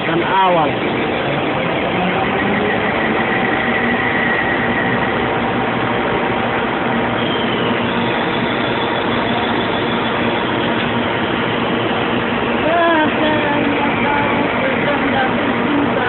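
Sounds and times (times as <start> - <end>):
lathe machine noise: 0.0 - 16.0.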